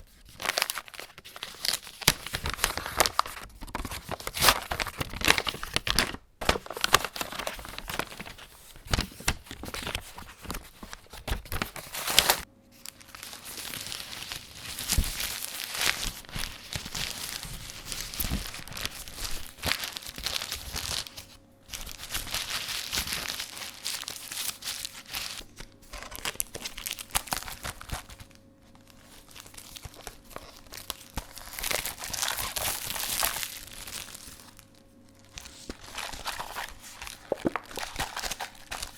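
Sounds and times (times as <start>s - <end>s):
plastic packaging crinkling: 0.0s - 38.9s
paper packaging tearing: 0.2s - 34.6s, 35.3s - 38.9s.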